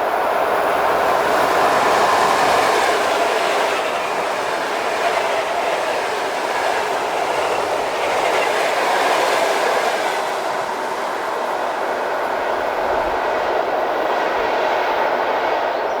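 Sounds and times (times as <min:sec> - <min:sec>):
clickety-clack of train wheels: 0:00.0 - 0:16.0
train wheels rushing on rails: 0:00.0 - 0:16.0.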